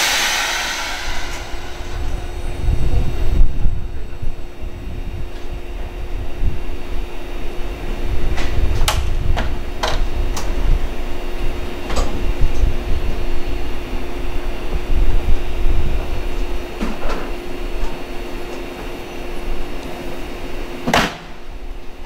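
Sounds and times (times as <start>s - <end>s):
train equipment low rumble: 0.0s - 20.8s
constant hum: 0.0s - 22.0s.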